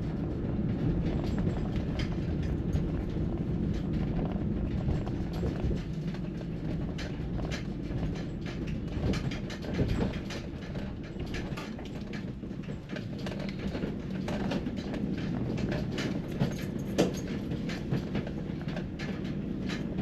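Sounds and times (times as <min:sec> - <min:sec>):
light rattles and clicks: 0:00.0 - 0:20.0
road and engine rumble: 0:00.0 - 0:20.0.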